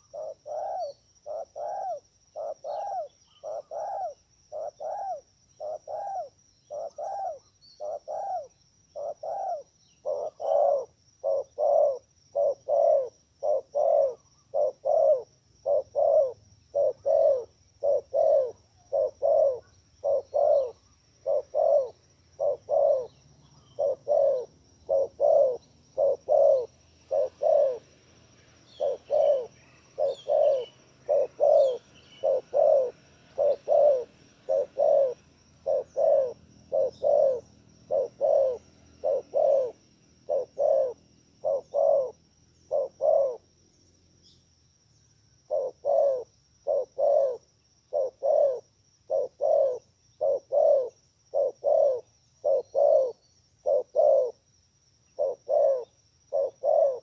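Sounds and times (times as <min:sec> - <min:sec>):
dove cooing: 0:00.0 - 0:43.5, 0:45.4 - 0:54.4, 0:55.1 - 0:57.0
small birds chirping: 0:00.0 - 0:57.0.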